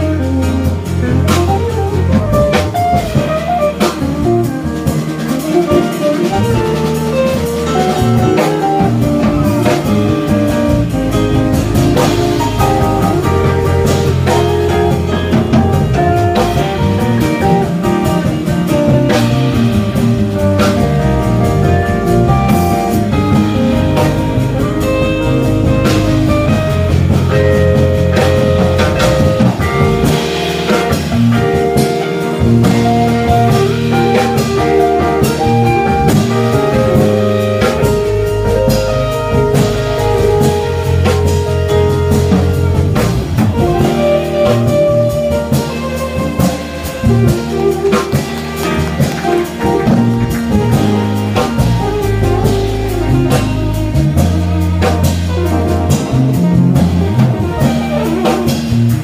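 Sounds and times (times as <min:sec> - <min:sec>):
drum kit beat: 0:00.0 - 0:59.0
guitar: 0:00.0 - 0:59.0.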